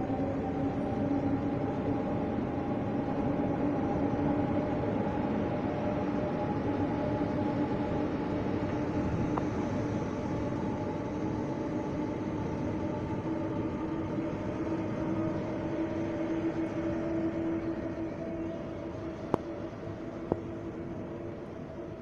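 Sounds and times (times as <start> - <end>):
electric train hum: 0.0 - 22.0
wheels rumbling on rail: 0.0 - 22.0.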